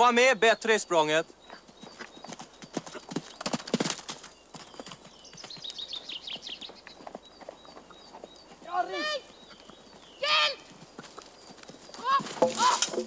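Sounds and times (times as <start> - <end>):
hooves thudding on sand: 1.2 - 13.0.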